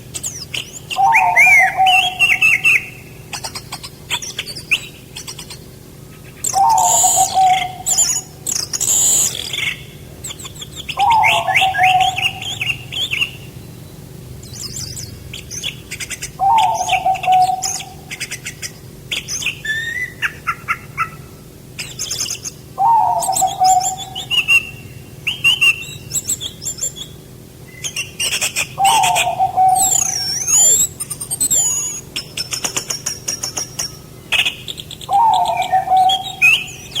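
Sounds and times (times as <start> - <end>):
lower falling bird call: 0.0 - 37.0
songbirds chirping and trilling: 0.0 - 37.0.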